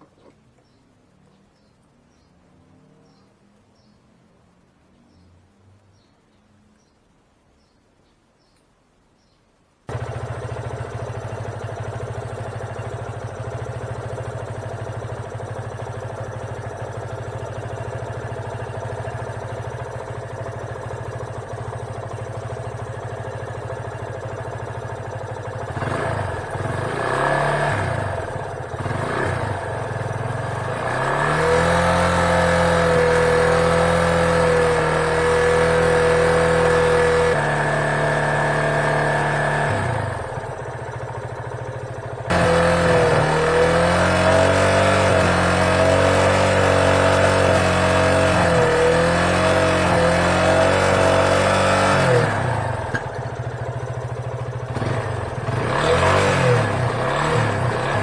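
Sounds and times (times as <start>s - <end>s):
car engine idling and revving: 9.9s - 58.0s.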